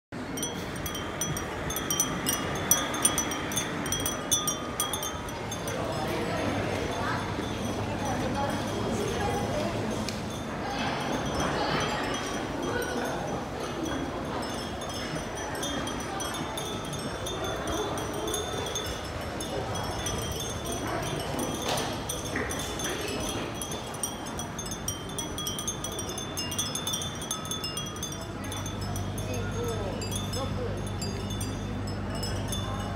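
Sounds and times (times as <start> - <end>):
glass wind chimes tinkling: 0.2 - 32.9
low background noise: 0.2 - 32.9.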